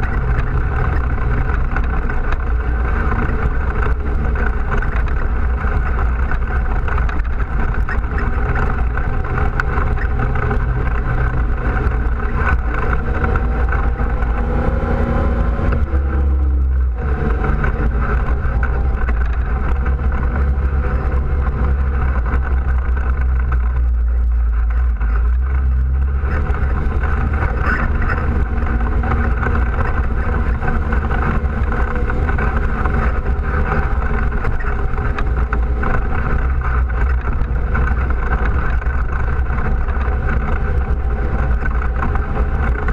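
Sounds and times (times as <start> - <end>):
quad bike engine rumble: 0.0 - 42.9.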